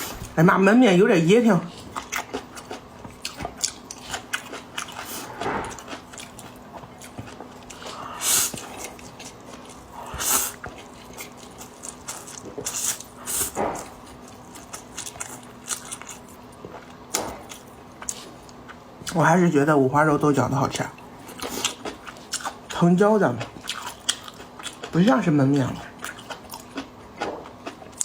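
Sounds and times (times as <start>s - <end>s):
person chewing food: 1.6s - 19.2s, 21.2s - 28.0s.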